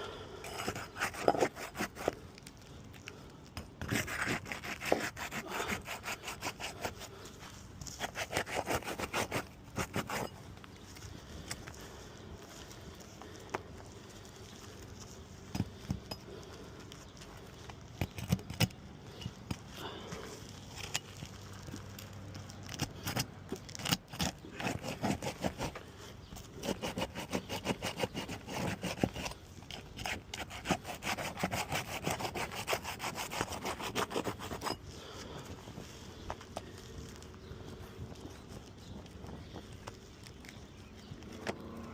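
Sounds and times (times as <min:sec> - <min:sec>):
tool scraping under roof shingles: 0:00.3 - 0:21.8, 0:22.4 - 0:41.9.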